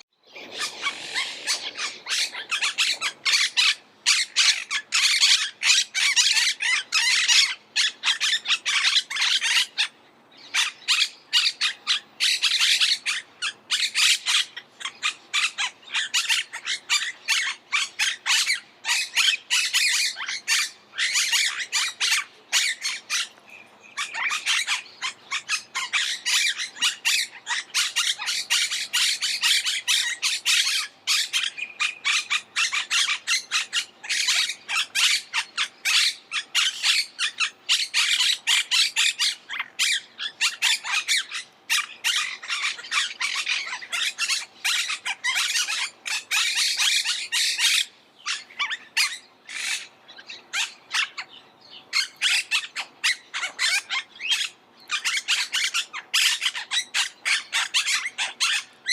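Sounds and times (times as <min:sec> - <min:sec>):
parakeets squawking: 0:00.0 - 0:58.9.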